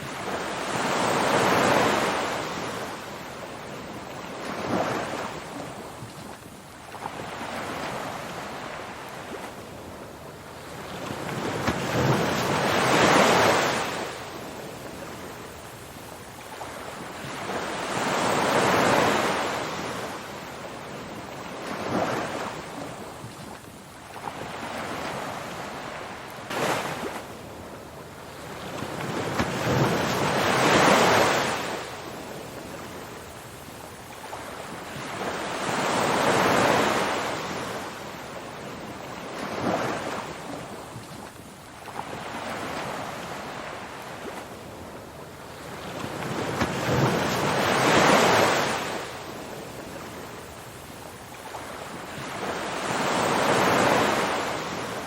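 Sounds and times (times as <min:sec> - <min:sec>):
ocean waves breaking: 0:00.0 - 0:15.7, 0:16.5 - 0:33.4, 0:34.2 - 0:50.6.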